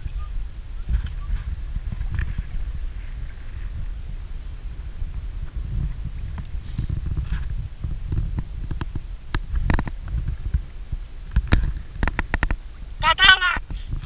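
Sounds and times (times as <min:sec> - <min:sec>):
wind rumble: 0:00.0 - 0:14.0.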